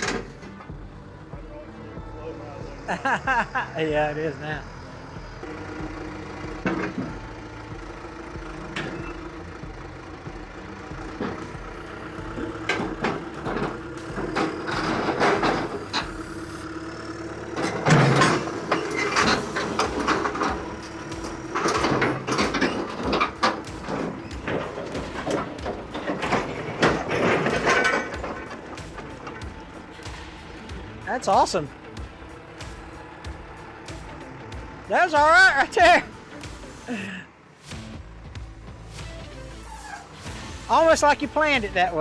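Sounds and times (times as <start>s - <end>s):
bulldozer engine running: 0.0s - 42.0s
steel tracks clanking: 4.3s - 42.0s.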